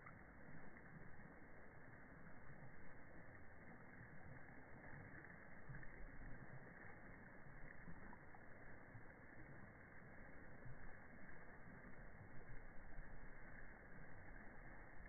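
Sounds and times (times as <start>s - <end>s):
shallow water rushing in channel: 0.0s - 15.0s.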